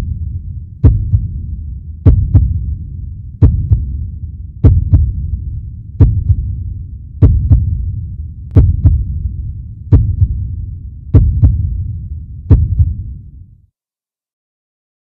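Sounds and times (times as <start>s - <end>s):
steady low hum: 0.0s - 13.6s
heartbeat thumps: 0.8s - 13.2s.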